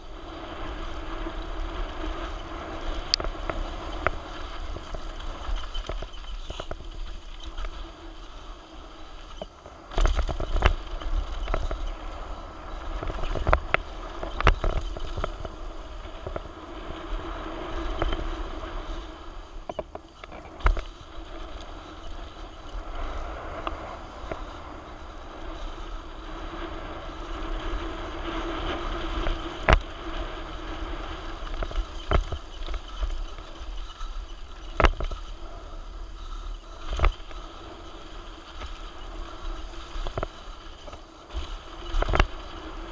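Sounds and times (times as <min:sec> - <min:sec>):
bike knocking and rattling: 0:00.0 - 0:25.9, 0:26.6 - 0:42.9
tyre and wind noise: 0:00.0 - 0:42.9.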